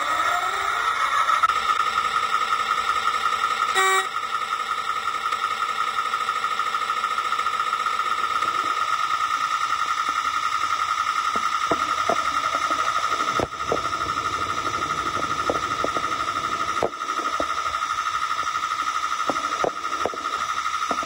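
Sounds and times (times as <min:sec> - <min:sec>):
model locomotive whine: 0:00.0 - 0:21.0.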